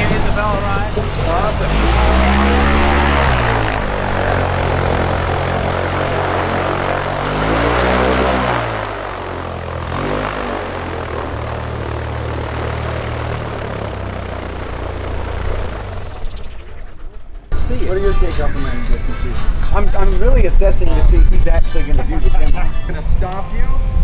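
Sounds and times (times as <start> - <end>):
propeller airplane engine running: 0.0 - 22.6.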